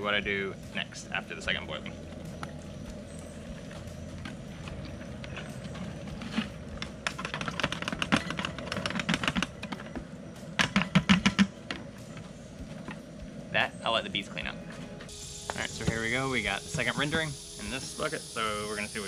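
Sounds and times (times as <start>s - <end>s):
gas burner running: 0.0s - 19.0s.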